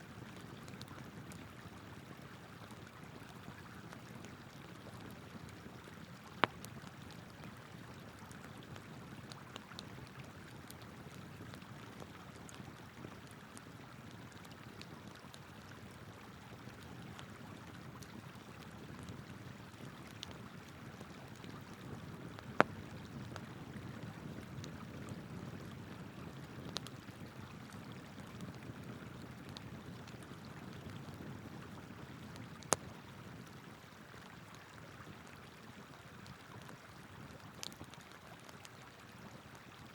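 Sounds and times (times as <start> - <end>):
campfire crackling: 0.1 - 35.6, 36.3 - 39.9.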